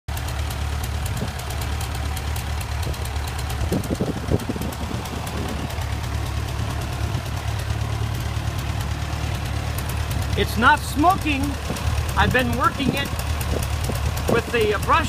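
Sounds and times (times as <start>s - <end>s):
tractor engine idling: 0.1s - 15.0s.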